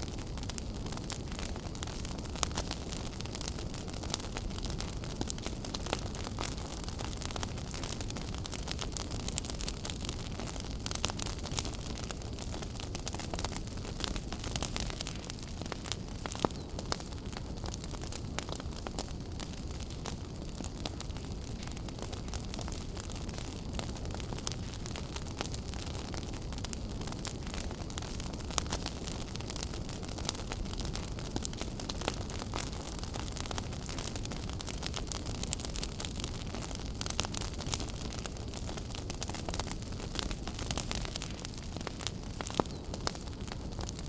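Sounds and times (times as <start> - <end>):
fire crackles and pops: 0.0 - 44.0.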